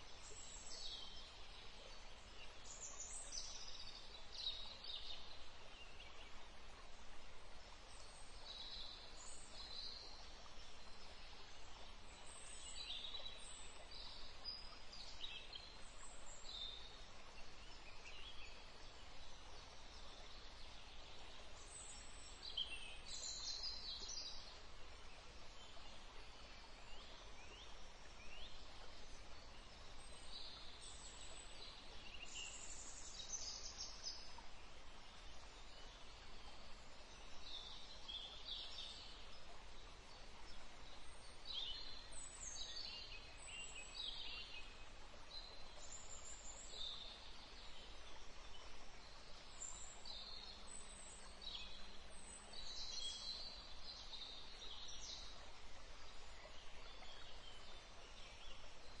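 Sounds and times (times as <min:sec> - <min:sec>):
faint steady background noise: 0:00.0 - 0:59.0.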